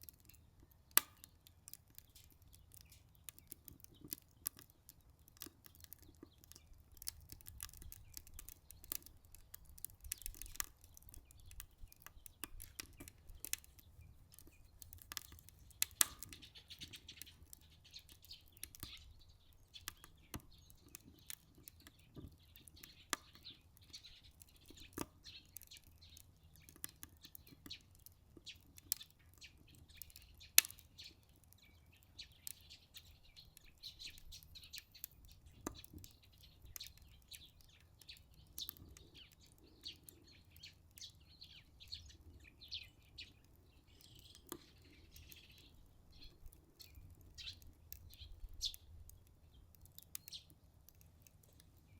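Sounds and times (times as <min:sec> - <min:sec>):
wood fire crackling and popping: 0:00.0 - 0:51.9.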